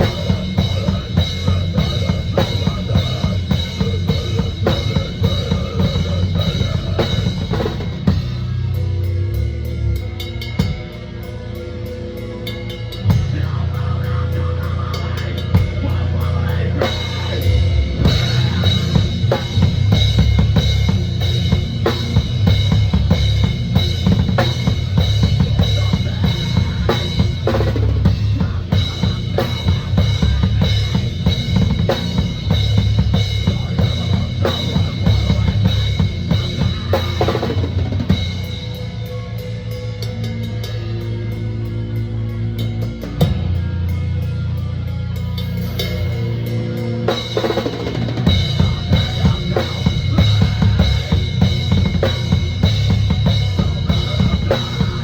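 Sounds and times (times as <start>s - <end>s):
drum kit played fast: 0.0s - 55.0s.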